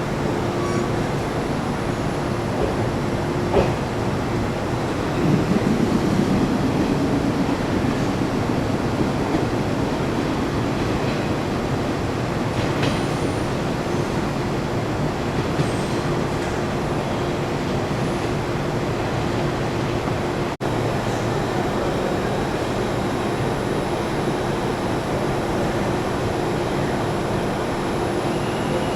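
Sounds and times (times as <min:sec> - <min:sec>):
train rumble: 0:00.0 - 0:28.9.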